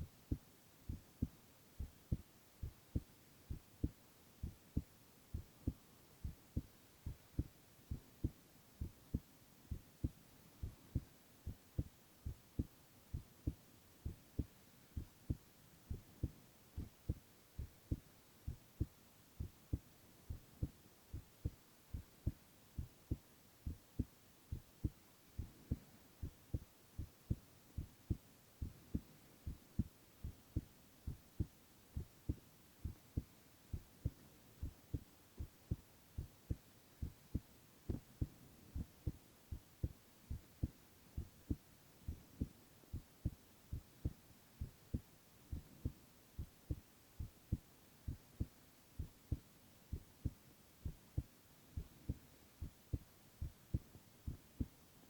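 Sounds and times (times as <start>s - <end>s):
heartbeat thumps: 0.3s - 54.8s.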